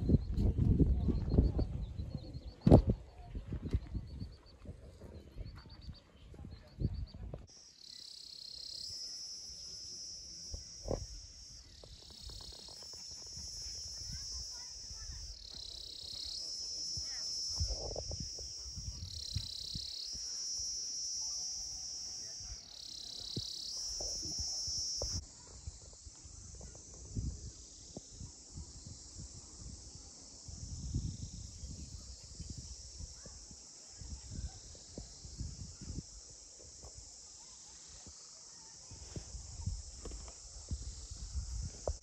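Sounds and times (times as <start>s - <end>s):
insect chorus buzzing: 7.0s - 42.0s.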